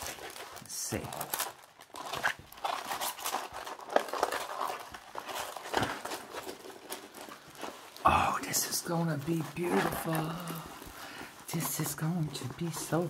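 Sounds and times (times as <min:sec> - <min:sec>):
canvas rustling and crinkling: 0:00.0 - 0:13.0.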